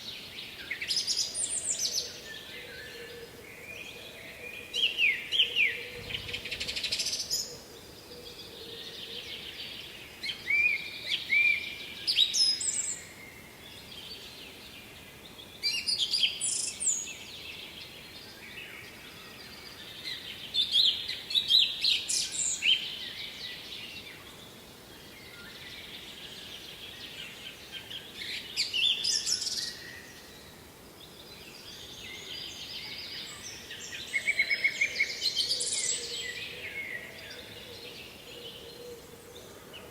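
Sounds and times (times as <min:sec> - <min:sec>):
background hiss: 0:00.0 - 0:39.9
songbird singing: 0:00.0 - 0:39.9.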